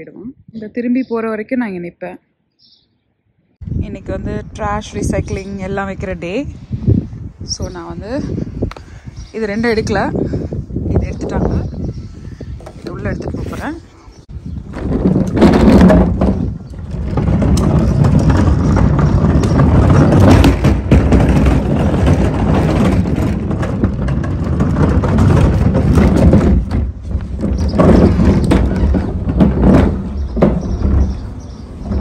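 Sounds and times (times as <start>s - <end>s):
trash bin wheels rumbling on pavement: 3.7s - 32.0s.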